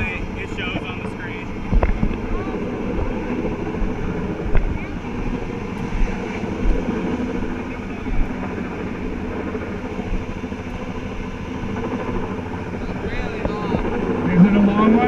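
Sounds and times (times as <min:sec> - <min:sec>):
helicopter rotor pulsing: 0:00.0 - 0:15.0.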